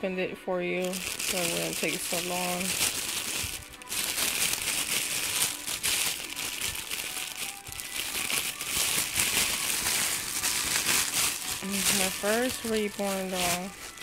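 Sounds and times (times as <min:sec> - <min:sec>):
plastic wrapping crinkling: 0:00.8 - 0:14.0.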